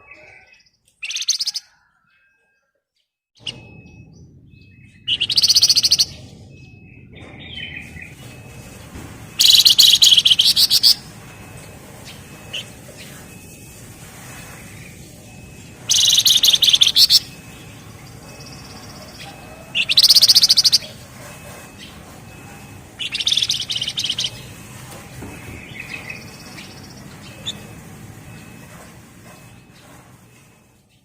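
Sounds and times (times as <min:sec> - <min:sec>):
bird singing rapid trills: 0:00.0 - 0:02.7, 0:03.4 - 0:08.2, 0:09.4 - 0:21.0, 0:21.6 - 0:24.7, 0:25.4 - 0:28.7.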